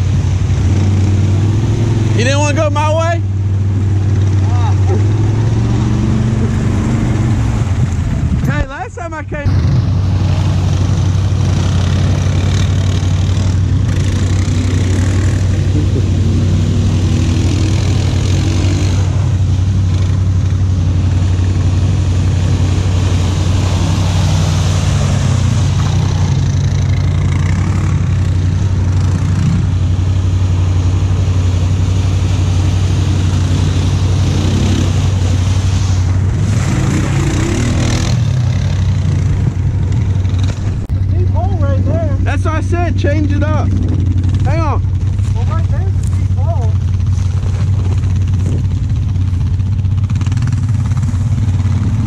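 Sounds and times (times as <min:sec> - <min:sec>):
quad engine revving: 0:00.0 - 0:08.6, 0:09.4 - 0:52.0
churning through mud and water: 0:00.0 - 0:52.0.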